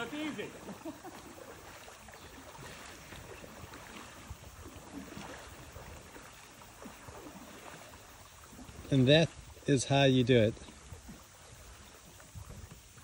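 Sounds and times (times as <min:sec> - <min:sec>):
small water splashes: 0:00.0 - 0:13.0
water lapping against kayak: 0:00.0 - 0:13.0.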